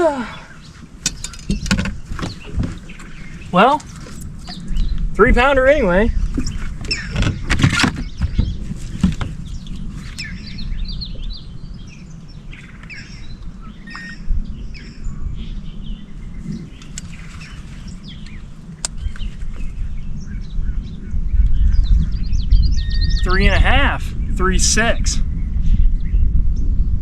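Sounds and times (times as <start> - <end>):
birds chirping: 0.0 - 26.4
steady low rumble: 0.0 - 27.0.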